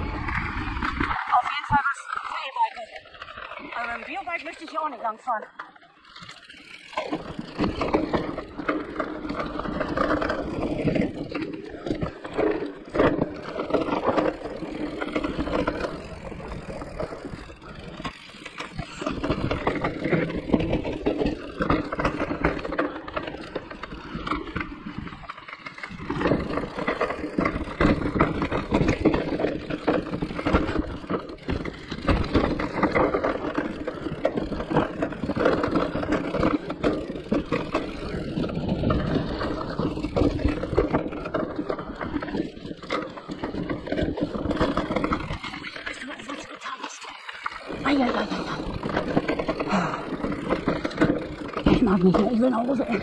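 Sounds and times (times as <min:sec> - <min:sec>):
bike rattling: 0:00.0 - 0:53.0
bike tyres rolling on rough trail: 0:00.0 - 0:53.0.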